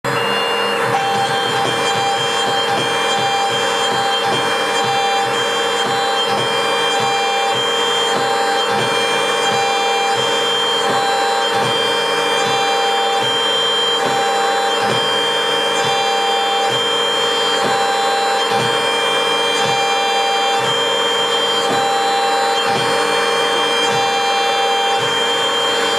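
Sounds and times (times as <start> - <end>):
cnc spindle whining: 0.0 - 25.9.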